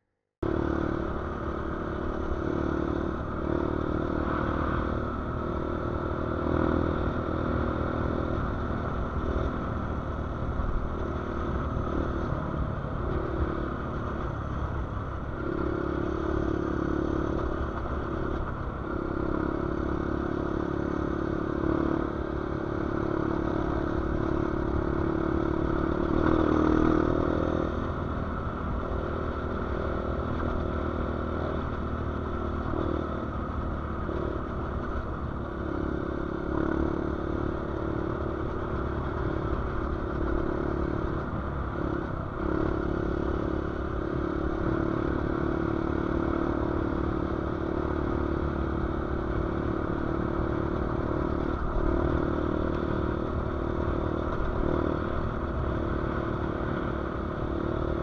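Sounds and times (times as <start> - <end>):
wind: 0.0 - 58.0
motorcycle engine drone: 0.4 - 58.0
road rumble: 0.4 - 58.0.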